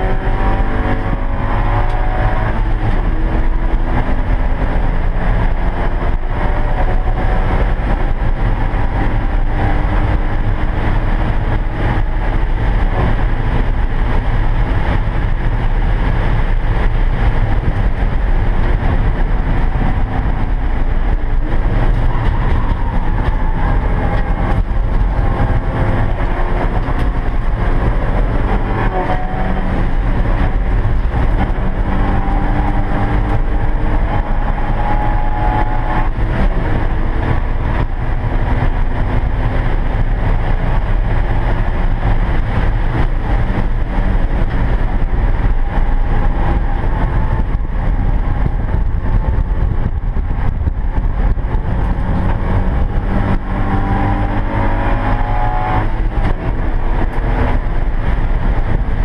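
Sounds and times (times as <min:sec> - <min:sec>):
race car engine running hard: 0:00.0 - 0:59.0
road and wind noise: 0:00.0 - 0:59.0.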